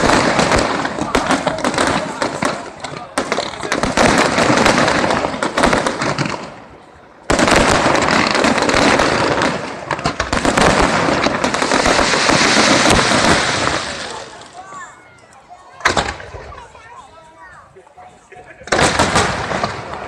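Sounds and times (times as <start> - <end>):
fireworks crackling barrage: 0.0 - 20.0.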